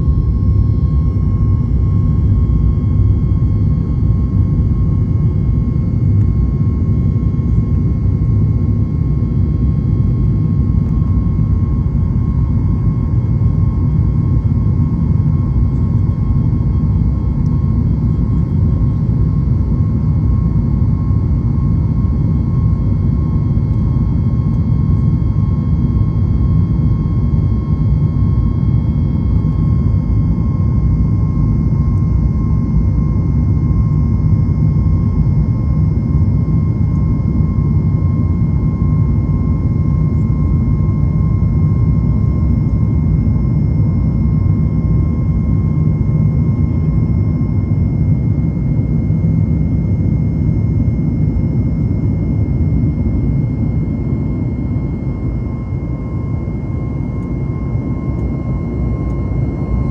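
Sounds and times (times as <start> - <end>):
jet engine deep rumble: 0.0 - 59.9
thin steady whine: 0.0 - 59.9.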